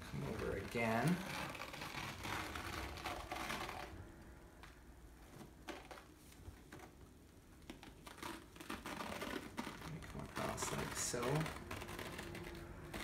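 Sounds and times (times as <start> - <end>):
elastic bandage crackling: 0.0 - 13.0.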